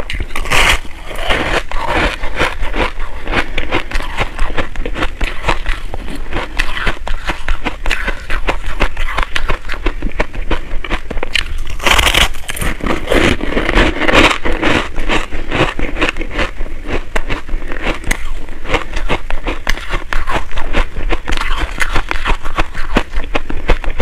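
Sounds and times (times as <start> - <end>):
crunching bites of shaved ice: 0.0 - 22.6
chewing ice: 0.0 - 24.0.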